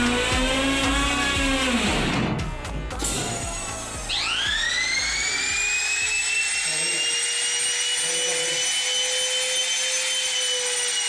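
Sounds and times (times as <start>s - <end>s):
power tool motor whining: 0.0s - 11.0s.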